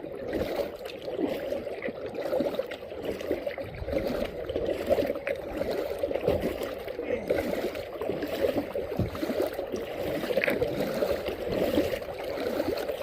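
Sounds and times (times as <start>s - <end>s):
water gurgling against kayak: 0.0s - 13.0s.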